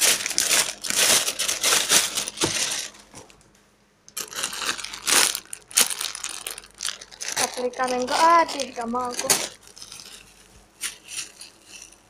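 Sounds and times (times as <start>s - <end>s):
plastic wrappers crinkling: 0.0s - 3.5s, 4.1s - 12.0s.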